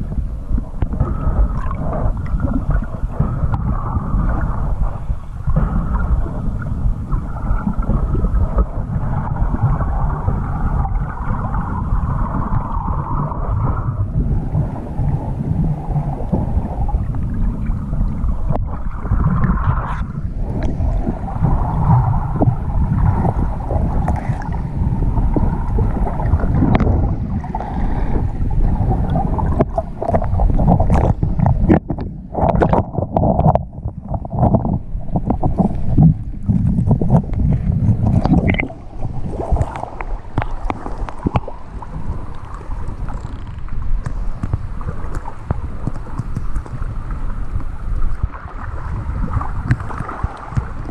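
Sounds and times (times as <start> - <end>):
underwater water rumble and gurgle: 0.0 - 50.9.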